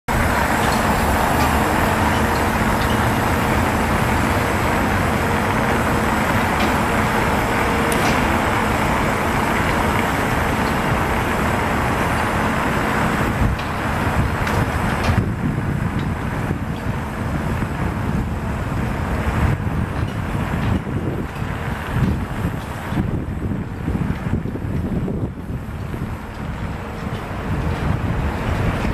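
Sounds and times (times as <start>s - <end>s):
rushing traffic noise: 0.0s - 28.9s.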